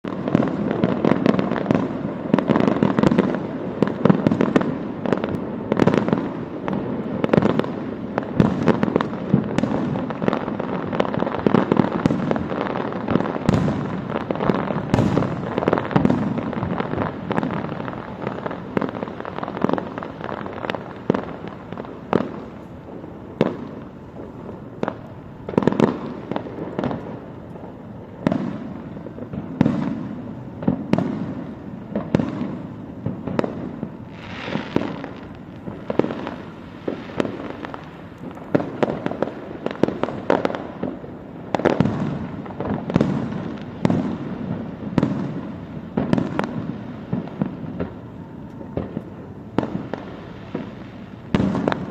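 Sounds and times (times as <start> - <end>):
firework bangs with echo: 0.0 - 51.9
firework crackling: 0.0 - 51.9.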